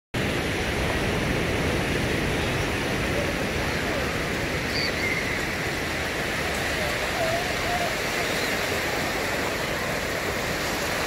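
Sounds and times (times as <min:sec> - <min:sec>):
surf rushing: 0:00.2 - 0:11.0
wind rumbling on microphone: 0:00.2 - 0:11.0.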